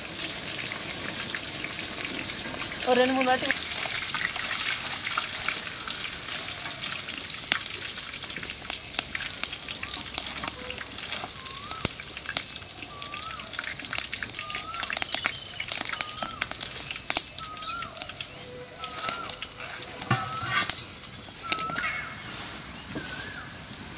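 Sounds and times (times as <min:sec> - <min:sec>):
chicken frying in hot oil: 0:00.0 - 0:23.9.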